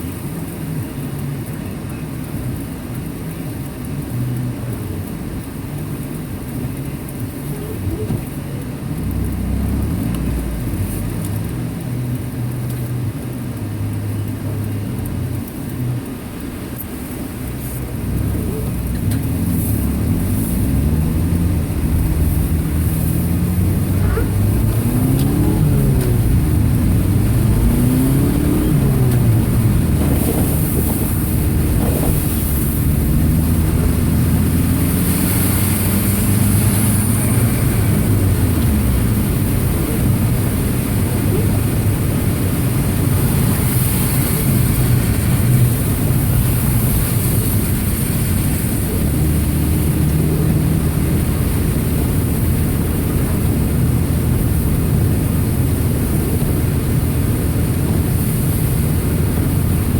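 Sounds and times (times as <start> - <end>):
steady rushing noise: 0.0 - 59.9
car engine revving: 4.0 - 59.9.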